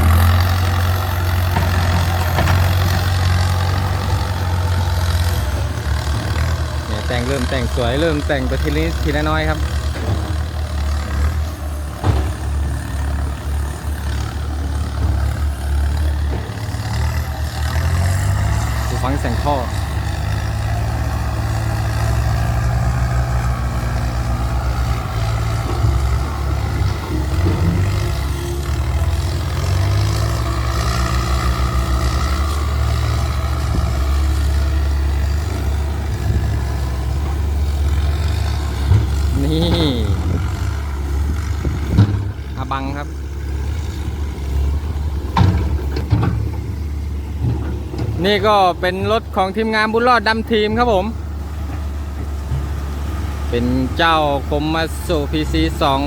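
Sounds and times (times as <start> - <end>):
tractor diesel engine rumbling: 0.0 - 56.0.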